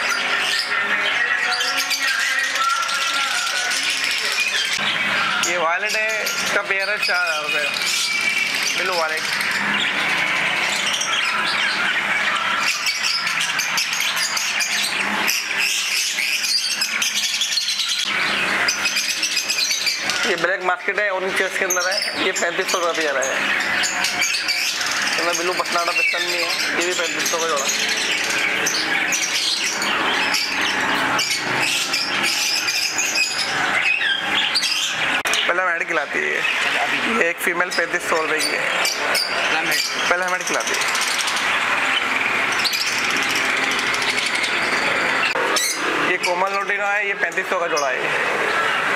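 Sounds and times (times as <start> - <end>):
parrots and finches chirping: 0.0 - 48.9.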